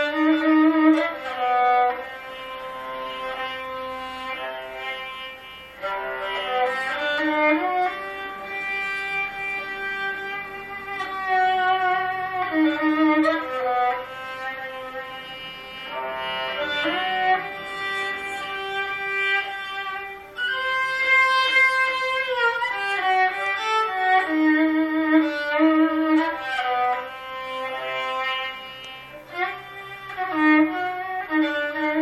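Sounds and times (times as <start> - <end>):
bowed lyra slow melody: 0.0 - 32.0.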